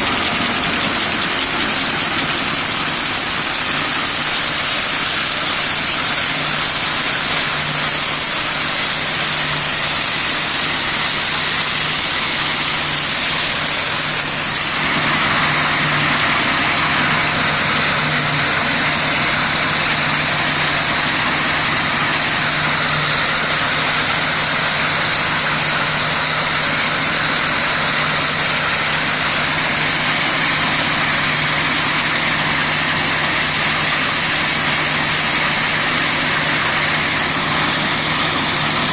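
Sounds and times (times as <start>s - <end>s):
combine harvester engine hum: 0.0s - 38.9s
hiss of machinery: 0.0s - 38.9s.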